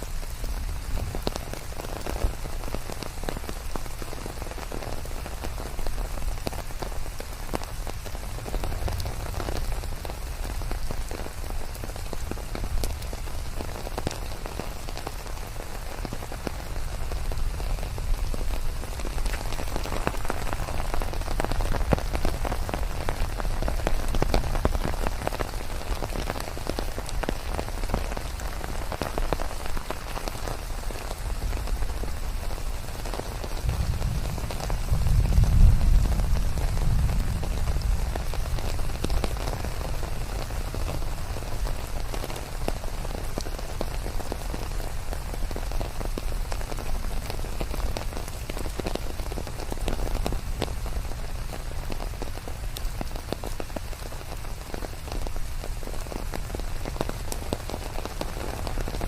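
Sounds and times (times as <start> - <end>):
rain drops hitting: 0.0 - 59.0.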